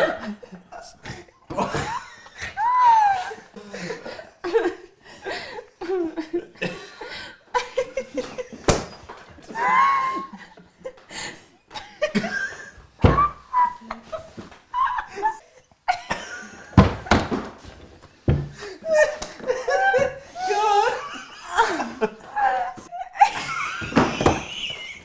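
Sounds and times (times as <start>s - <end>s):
group laughing hard: 0.0s - 8.7s, 9.3s - 17.2s, 18.6s - 25.0s.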